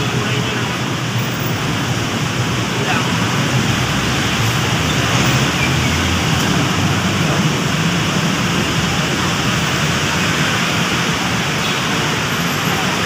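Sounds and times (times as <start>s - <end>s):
heavy rain pouring: 0.0s - 13.0s
low rumble of city traffic: 0.0s - 13.0s.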